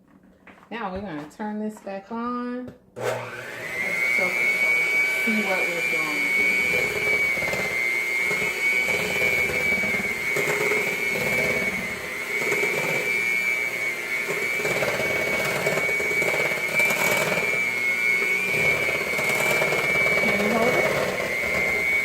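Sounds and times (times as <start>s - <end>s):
electric mixer whining: 3.0s - 22.0s.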